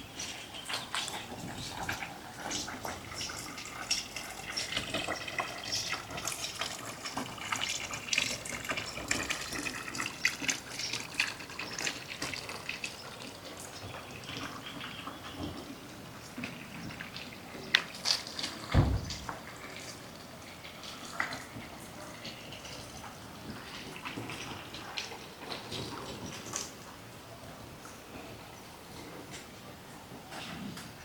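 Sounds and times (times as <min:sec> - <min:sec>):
running water splashing and gurgling: 0:01.7 - 0:26.7.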